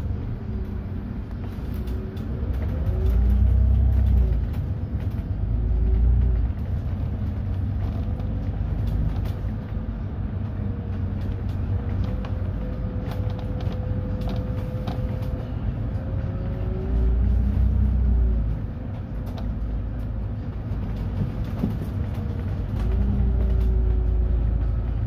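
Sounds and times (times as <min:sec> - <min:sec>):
city bus driving: 0:00.0 - 0:25.0.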